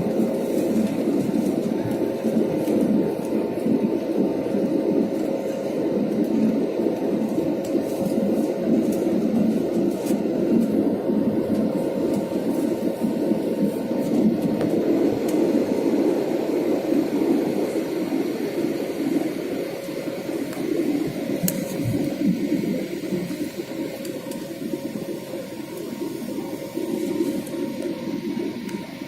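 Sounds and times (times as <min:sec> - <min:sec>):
aircraft engine and airflow drone: 0:00.0 - 0:29.0
faint steady hum: 0:00.0 - 0:29.0.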